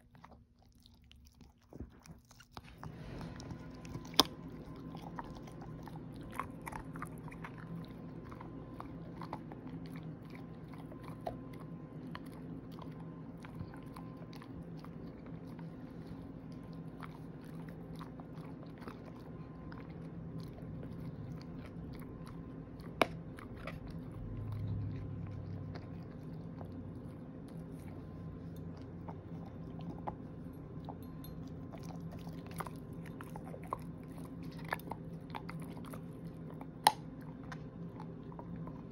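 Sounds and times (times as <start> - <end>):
dog gnawing a hard chew: 0.0 - 38.9.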